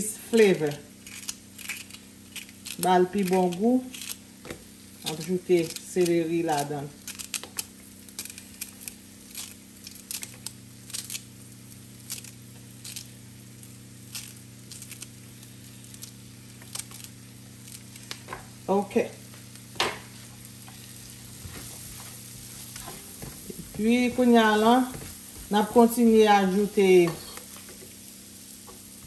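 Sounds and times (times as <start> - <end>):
vegetables sizzling in a pot: 0.0 - 29.0.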